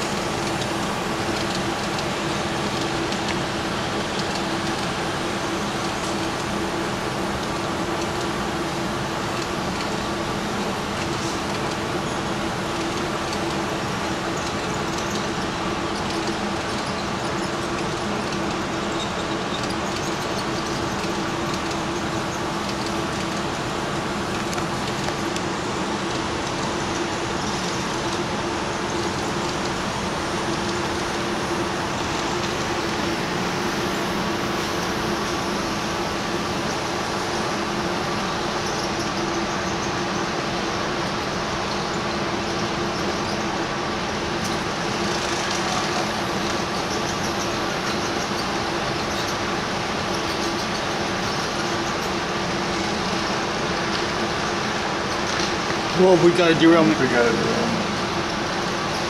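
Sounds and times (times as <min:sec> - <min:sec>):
model train running hum: 0:00.0 - 0:59.0
wheel and motor noise: 0:00.0 - 0:59.0.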